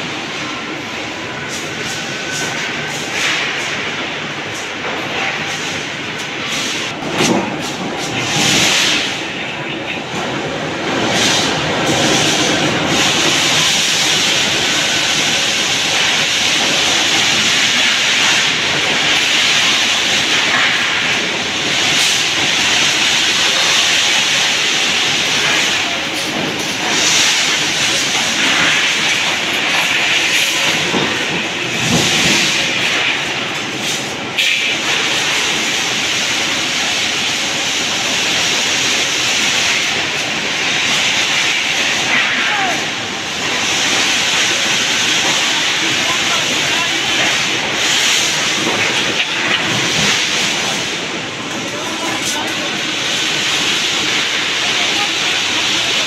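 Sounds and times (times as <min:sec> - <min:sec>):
rolling mill machinery din: 0:00.0 - 0:56.0.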